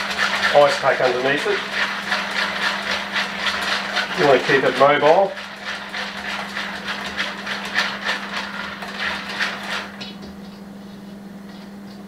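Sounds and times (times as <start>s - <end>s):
whisk scraping in metal bowl: 0.0s - 11.1s
steady low hum: 0.0s - 12.0s.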